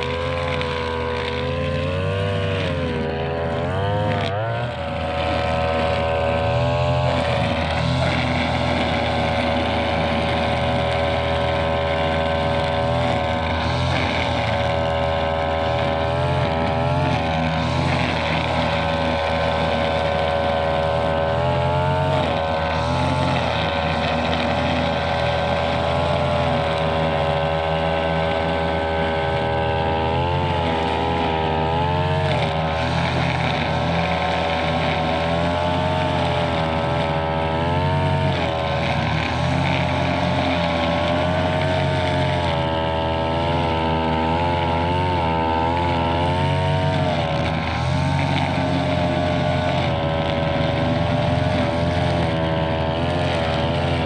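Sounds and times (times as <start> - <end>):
brush cutter engine at high revs: 0.0 - 54.0.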